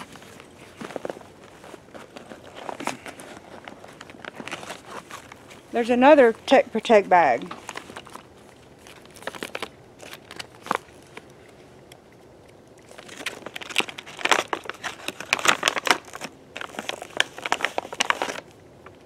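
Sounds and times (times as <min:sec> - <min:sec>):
bag crinkling: 0:00.0 - 0:11.8, 0:12.7 - 0:19.0.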